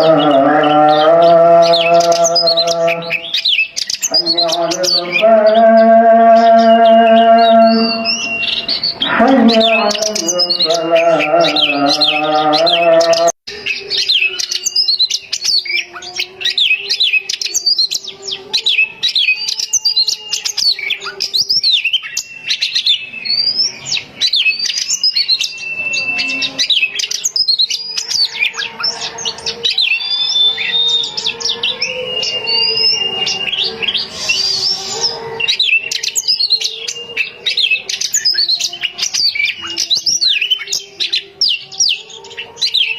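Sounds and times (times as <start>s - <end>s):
bird singing whistles and chirps: 0.0s - 42.9s.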